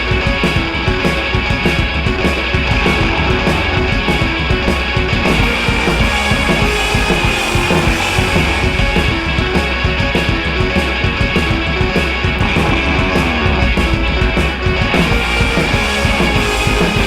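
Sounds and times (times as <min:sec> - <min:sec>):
rock music with drums and guitar: 0:00.0 - 0:17.0.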